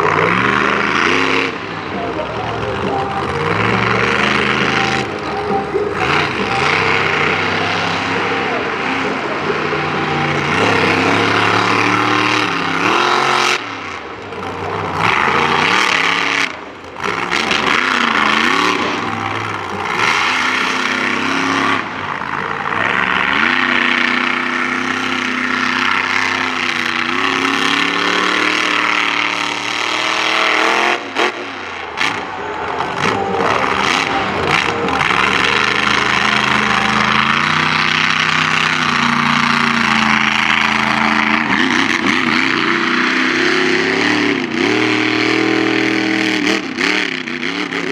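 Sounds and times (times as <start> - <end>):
truck engine revving: 0.0 - 47.9.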